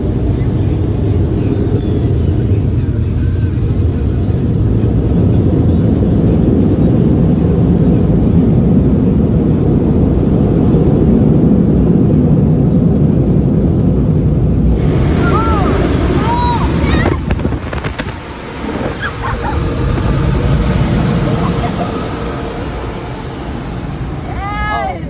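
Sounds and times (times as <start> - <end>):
car wash machinery rumble: 0.0 - 25.0.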